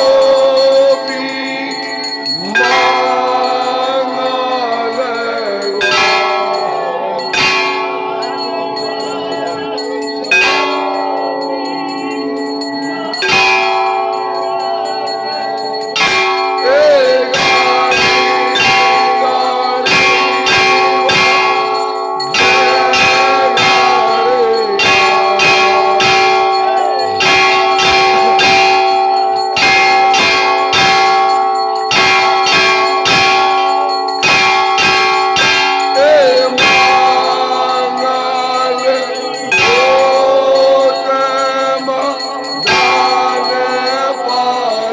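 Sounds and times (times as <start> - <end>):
temple bells clanging: 0.0 - 44.9.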